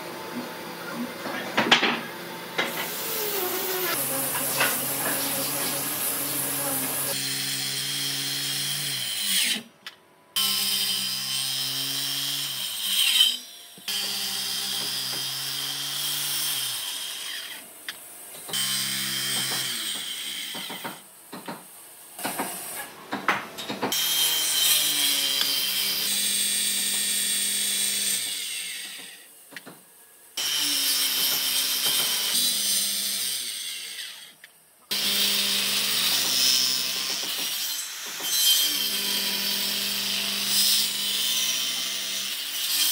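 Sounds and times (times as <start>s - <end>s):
circular saw cutting wood: 2.6s - 9.7s, 10.4s - 17.7s, 18.4s - 21.0s, 23.9s - 29.4s, 30.4s - 42.9s.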